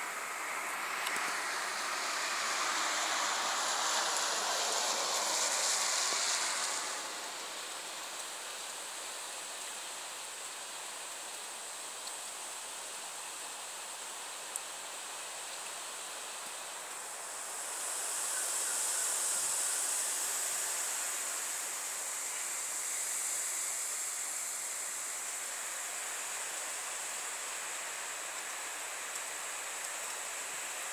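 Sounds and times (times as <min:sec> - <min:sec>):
wind rushing through trees: 0:00.0 - 0:30.9.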